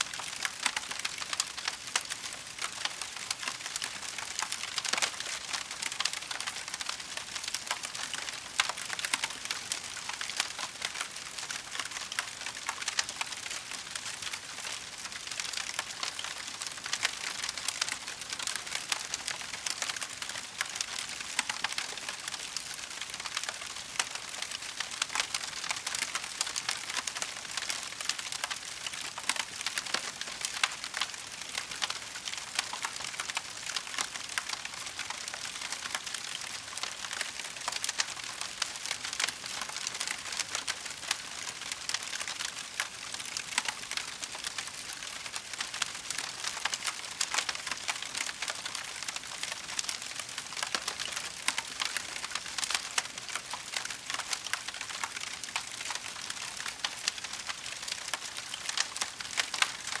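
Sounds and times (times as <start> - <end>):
wood fire crackling: 0.1 - 60.0.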